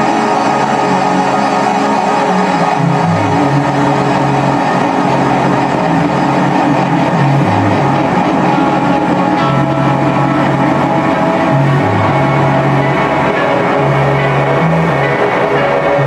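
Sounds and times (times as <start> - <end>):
bass guitar notes: 0.0 - 16.0.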